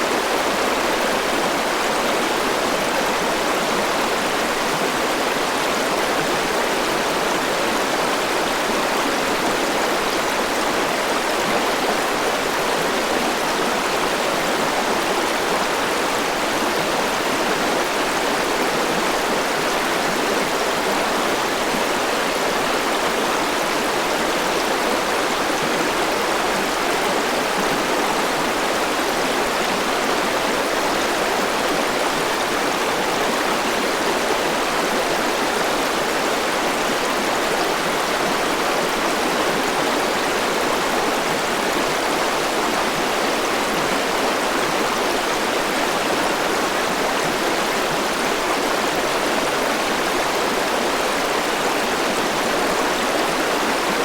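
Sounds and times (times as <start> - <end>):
river flowing over rocks: 0.0 - 54.0.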